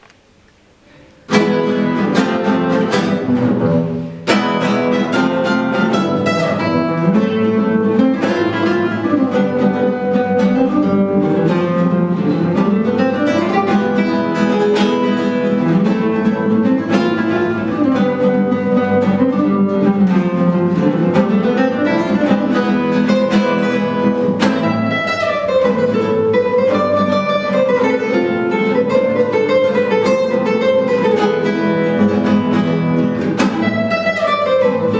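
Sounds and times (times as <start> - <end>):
acoustic guitar duet: 0.0 - 34.9.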